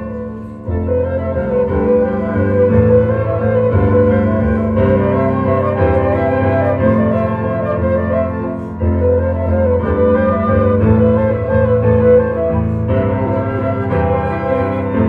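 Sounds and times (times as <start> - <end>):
flute ensemble sustained notes: 0.0 - 15.0
keyboard accompaniment: 0.0 - 15.0.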